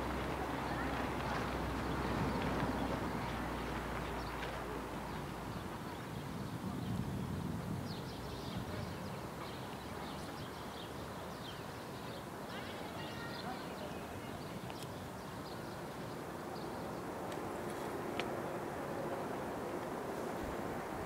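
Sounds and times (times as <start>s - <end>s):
steady wash of noise: 0.0s - 21.0s.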